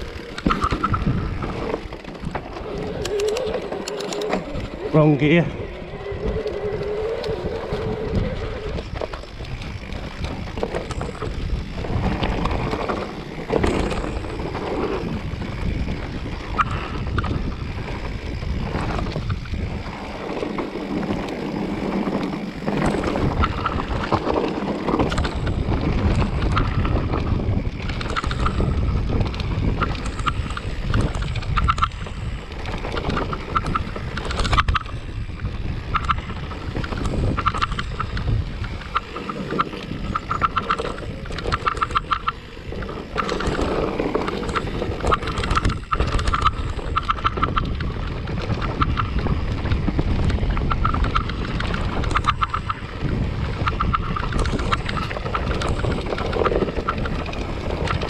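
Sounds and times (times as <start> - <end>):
bike rattling and knocking: 0.0 - 58.0
wind buffeting microphone: 0.0 - 58.0.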